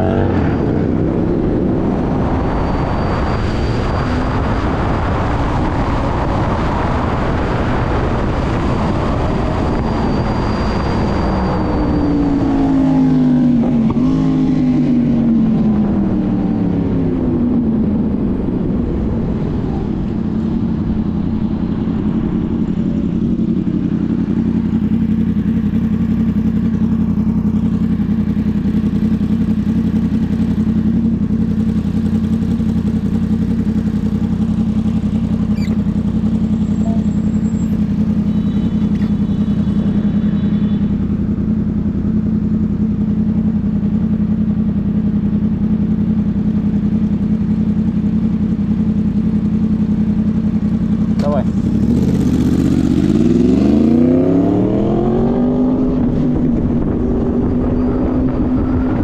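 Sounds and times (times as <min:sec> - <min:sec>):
low engine hum: 0:00.0 - 0:59.0
passing vehicle: 0:00.0 - 0:59.0
wind and road noise: 0:00.0 - 0:59.0.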